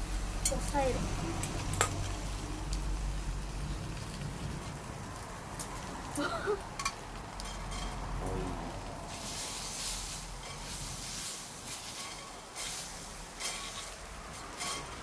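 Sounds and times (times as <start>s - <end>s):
campfire hissing: 0.0s - 15.0s
fire crackles: 0.0s - 15.0s.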